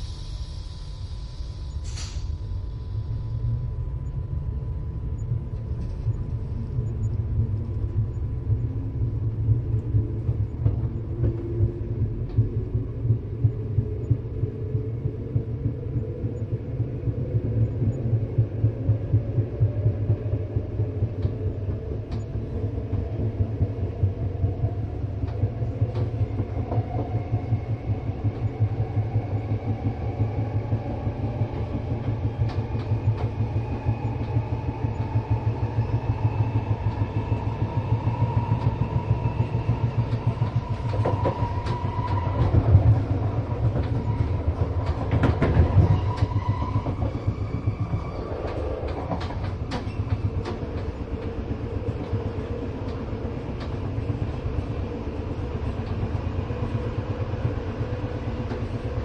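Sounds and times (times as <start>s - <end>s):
train rumbling and clattering on rails: 0.0s - 59.0s.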